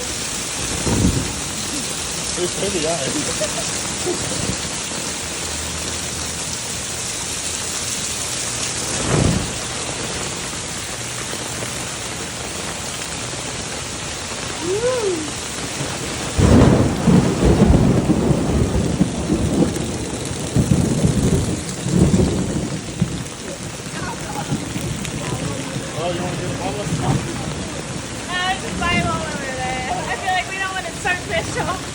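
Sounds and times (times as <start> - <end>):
heavy rain pouring: 0.0 - 31.9
thunder rumbling: 0.0 - 31.9.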